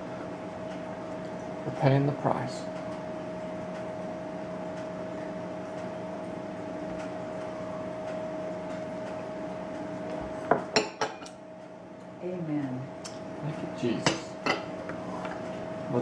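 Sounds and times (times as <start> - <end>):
mid-pitched hum: 0.0 - 16.0.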